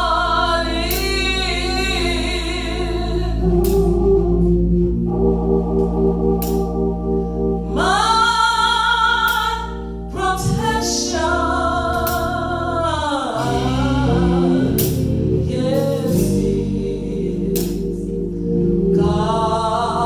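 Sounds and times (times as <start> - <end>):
organ accompaniment: 0.0 - 20.0
person singing gospel: 0.0 - 20.0.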